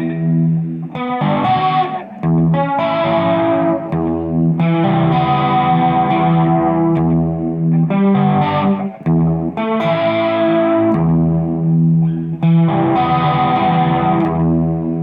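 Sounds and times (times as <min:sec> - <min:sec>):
distorted electric guitar chords: 0:00.0 - 0:15.0.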